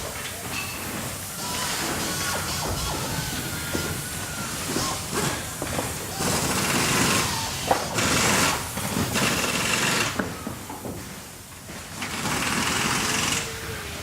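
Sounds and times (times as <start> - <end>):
factory machinery cycling: 0.0 - 14.0.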